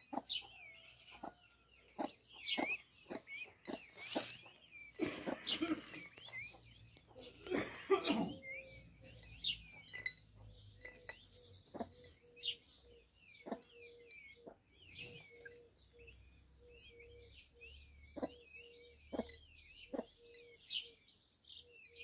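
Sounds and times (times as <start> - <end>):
chicks peeping: 0.0 - 7.6, 8.3 - 21.9.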